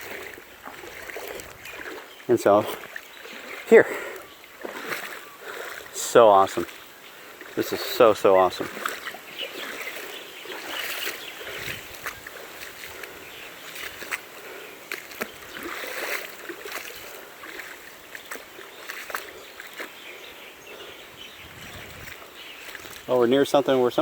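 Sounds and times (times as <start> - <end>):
stream water splashing: 0.0 - 24.0.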